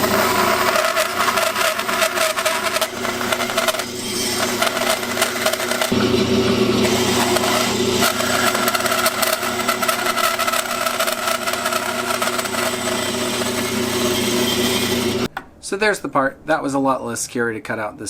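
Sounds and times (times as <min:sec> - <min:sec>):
saw blade rasping through wood: 0:00.0 - 0:06.0, 0:06.8 - 0:15.3
bandsaw motor hum: 0:00.0 - 0:15.3.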